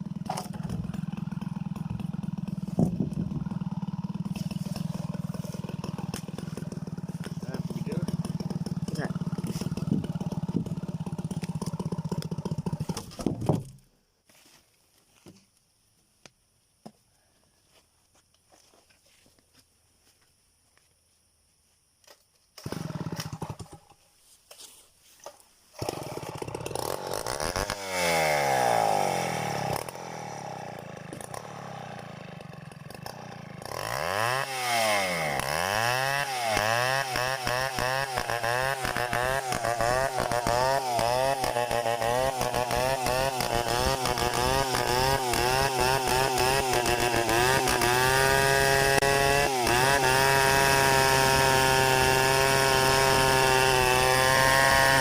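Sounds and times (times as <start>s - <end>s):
chainsaw starting and revving: 0.0s - 13.8s, 22.6s - 24.0s, 25.2s - 55.0s.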